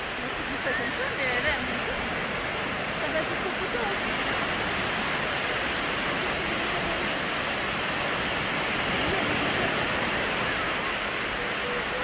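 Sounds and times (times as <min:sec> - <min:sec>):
small waves breaking on sand: 0:00.0 - 0:12.0.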